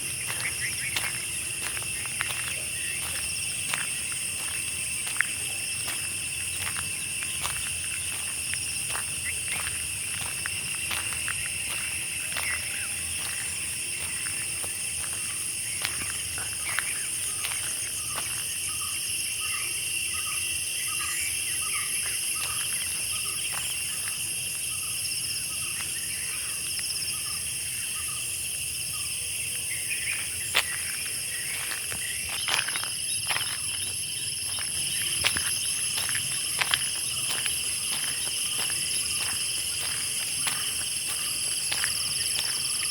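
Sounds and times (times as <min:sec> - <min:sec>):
crickets and insects trilling: 0:00.0 - 0:42.9.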